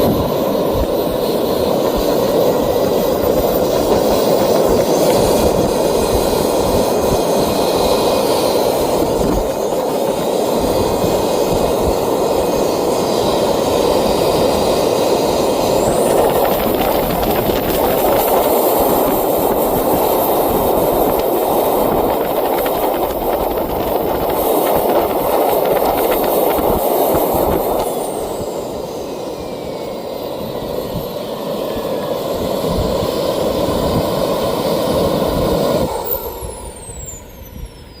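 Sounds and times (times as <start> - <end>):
jet turbine whine: 0.0 - 38.0
turbine rushing noise: 0.0 - 38.0.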